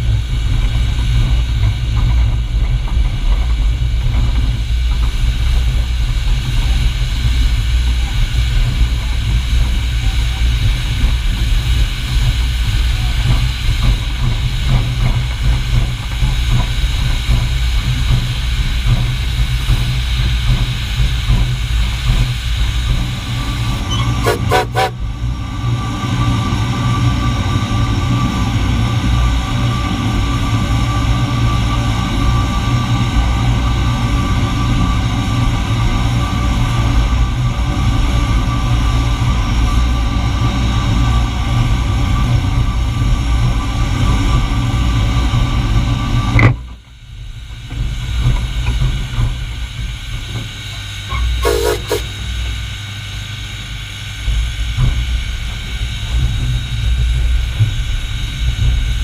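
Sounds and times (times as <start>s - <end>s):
steam locomotive rumbling: 0.0s - 59.0s.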